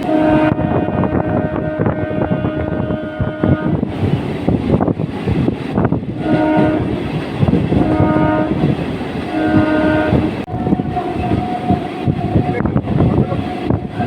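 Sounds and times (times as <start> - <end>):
train horn blasts: 0.0 - 3.9, 6.1 - 14.0
moving train rattling: 0.0 - 14.0.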